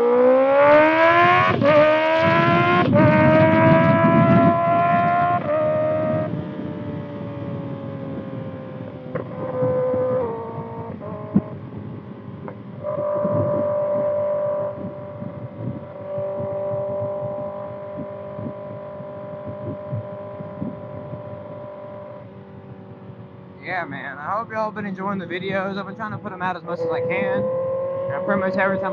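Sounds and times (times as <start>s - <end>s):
motorcycle exhaust while riding: 0.0s - 28.9s.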